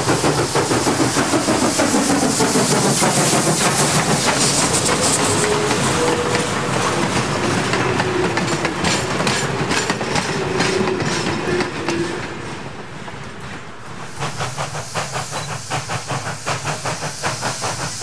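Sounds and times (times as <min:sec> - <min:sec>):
steam hissing: 0:00.0 - 0:18.0
train wheels clicking over rail joints: 0:00.0 - 0:18.0.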